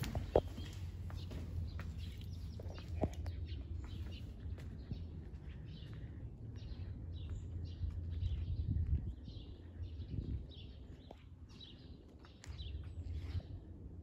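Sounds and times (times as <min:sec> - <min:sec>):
footsteps on concrete: 0:00.0 - 0:13.4
small birds chirping: 0:00.0 - 0:13.8
steady low rumble: 0:00.0 - 0:14.0.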